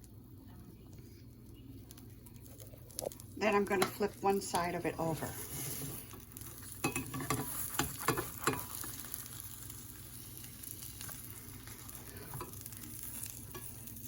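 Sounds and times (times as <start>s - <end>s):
omelet sizzling in a frying pan: 0.0s - 14.0s.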